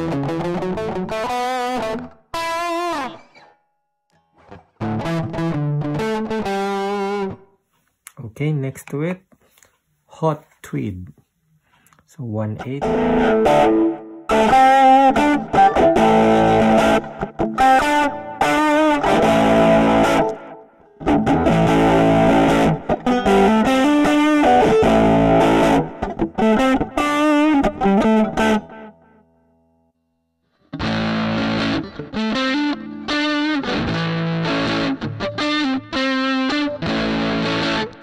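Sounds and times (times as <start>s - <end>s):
overdriven electric guitar: 0.0s - 7.5s, 12.6s - 29.4s, 30.4s - 38.0s.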